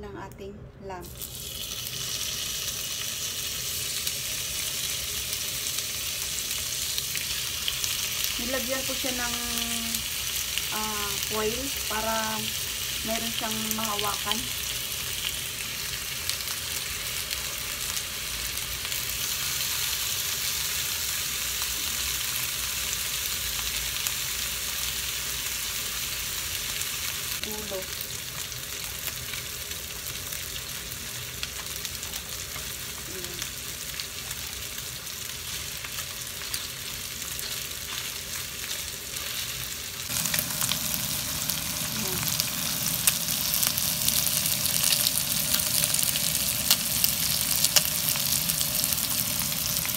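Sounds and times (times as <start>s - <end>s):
meat sizzling in hot oil: 1.0s - 49.9s.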